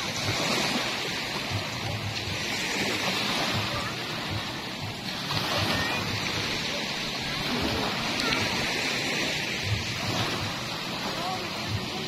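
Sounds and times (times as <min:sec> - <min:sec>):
small waves washing on sand: 0:00.0 - 0:12.0.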